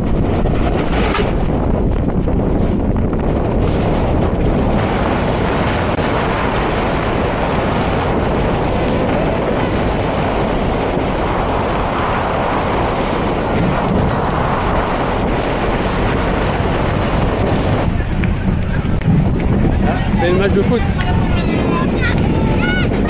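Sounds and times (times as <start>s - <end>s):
tyres rolling on dirt road: 0.0s - 23.0s
wind rushing over microphone: 0.0s - 23.0s.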